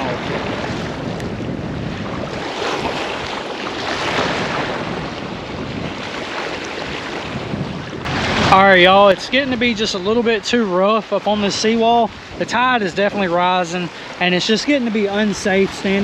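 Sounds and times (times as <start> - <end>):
waves washing over seawall: 0.0 - 16.0
wind on microphone: 0.0 - 16.0.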